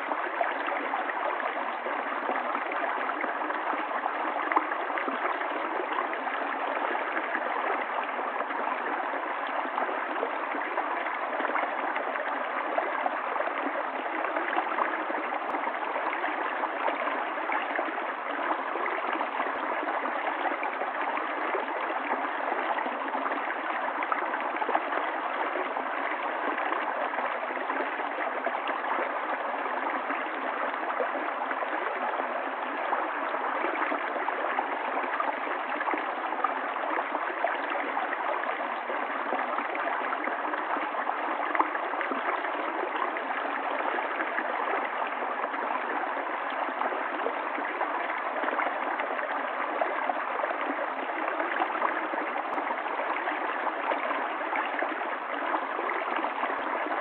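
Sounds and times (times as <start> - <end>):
stream water running over rocks: 0.0 - 57.0.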